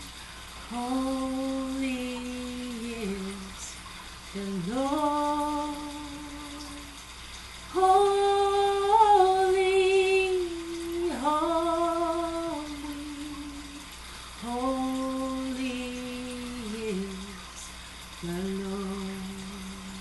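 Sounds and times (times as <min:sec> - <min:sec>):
woman singing unaccompanied: 0:00.7 - 0:07.0, 0:07.7 - 0:20.0.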